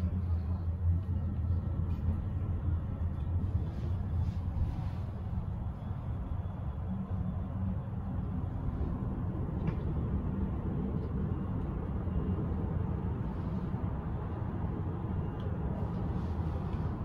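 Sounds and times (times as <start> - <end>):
cable car low rumble: 0.0 - 17.0.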